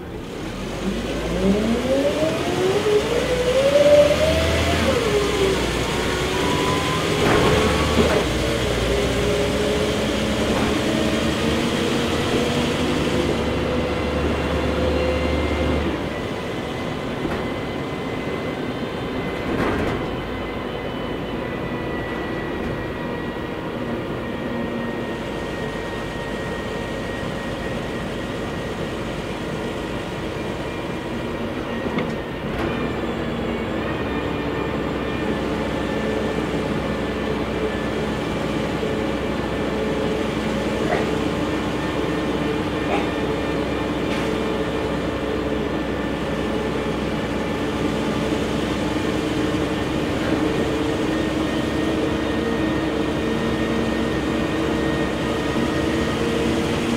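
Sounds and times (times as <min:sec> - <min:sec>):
bus engine pulling: 0:00.0 - 0:56.9.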